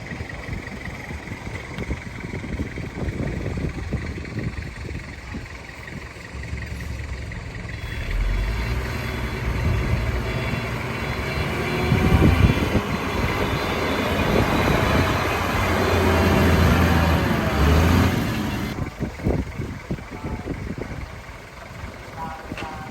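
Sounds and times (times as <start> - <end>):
diesel engine under load: 0.0 - 22.9.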